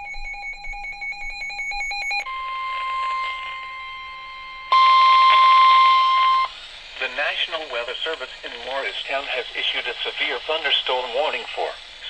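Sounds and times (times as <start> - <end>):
steady warning alarm tone: 0.0 - 12.0.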